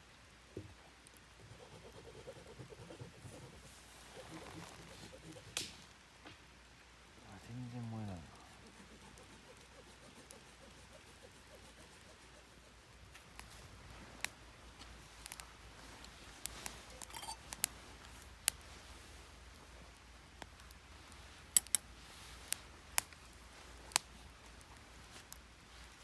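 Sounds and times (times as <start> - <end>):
wood fire crackling and popping: 0.5 - 6.5, 7.4 - 26.0.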